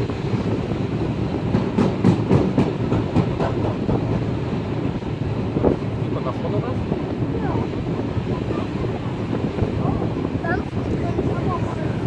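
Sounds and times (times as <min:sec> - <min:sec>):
locomotive rumble and rattle: 0:00.0 - 0:12.0.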